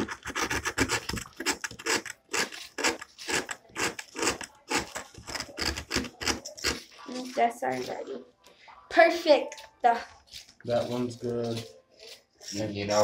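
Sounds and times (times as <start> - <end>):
knife scraping gingerbread: 0.0 - 8.0, 10.2 - 13.0.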